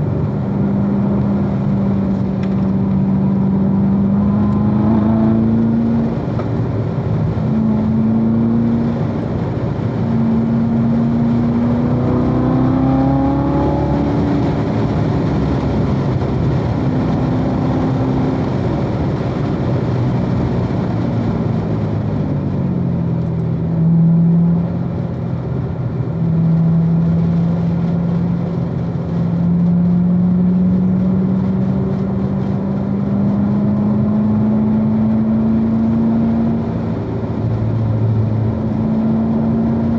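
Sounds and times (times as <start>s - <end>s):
car engine running under load: 0.0s - 39.9s.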